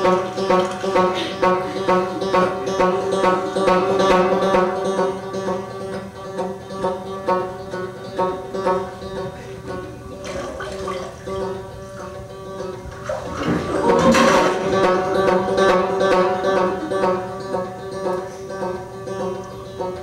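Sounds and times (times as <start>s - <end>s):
plucked string instrument music: 0.0s - 20.0s.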